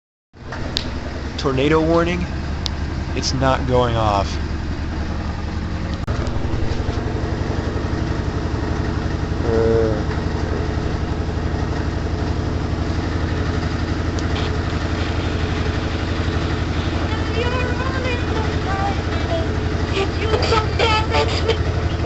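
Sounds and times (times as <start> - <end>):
pulsing mechanical hum: 0.4 - 22.0.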